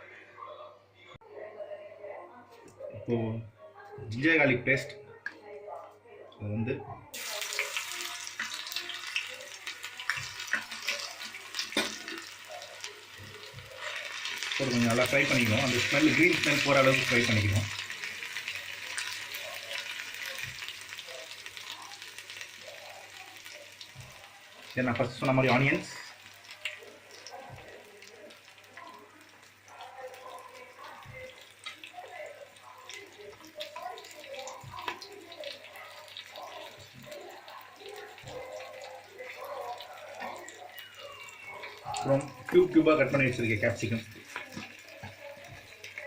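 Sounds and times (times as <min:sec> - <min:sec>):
paste sizzling in hot oil: 0:07.2 - 0:46.0.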